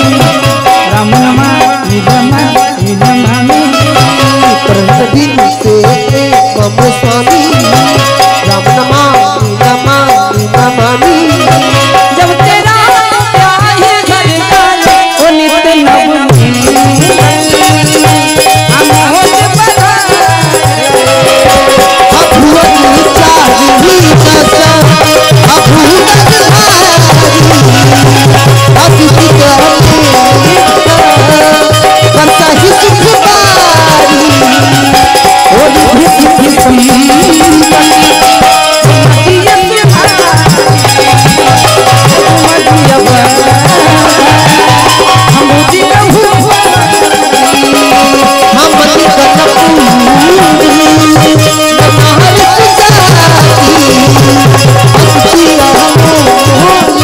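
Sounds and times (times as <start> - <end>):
hand drum beat: 0.0 - 57.0
harmonium melody: 0.0 - 57.0
jingling rattle percussion: 0.0 - 57.0.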